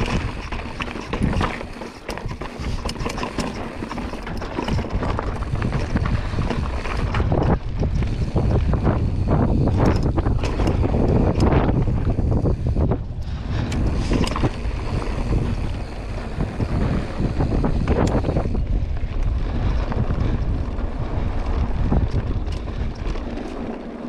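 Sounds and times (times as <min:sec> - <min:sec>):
bike rattling and clicking: 0:00.0 - 0:24.0
bike tyres crunching on rocky dirt: 0:00.0 - 0:24.0
wind rushing over microphone: 0:00.0 - 0:24.0.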